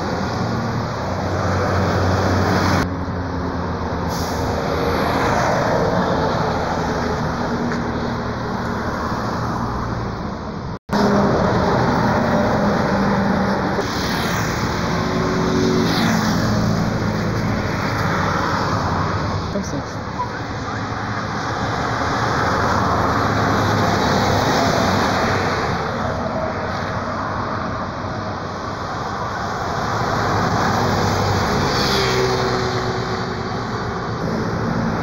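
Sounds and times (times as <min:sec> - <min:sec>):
bus diesel engines passing: 0:00.0 - 0:35.0
traffic and tyre noise: 0:00.0 - 0:35.0.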